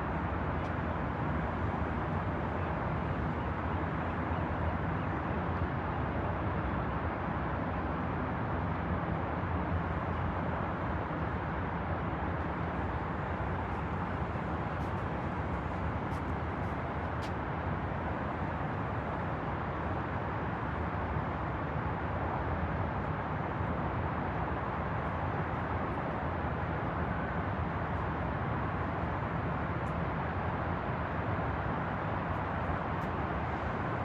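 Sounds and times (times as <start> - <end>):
city traffic rumble: 0.0 - 34.0.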